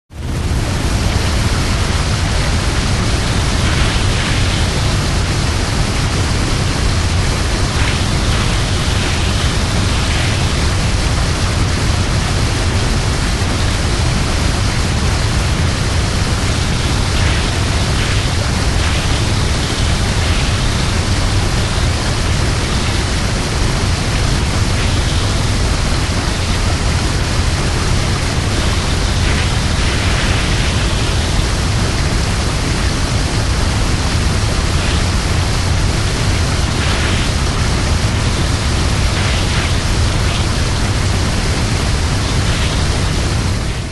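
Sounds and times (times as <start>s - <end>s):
waterfall rushing: 0.2s - 43.9s.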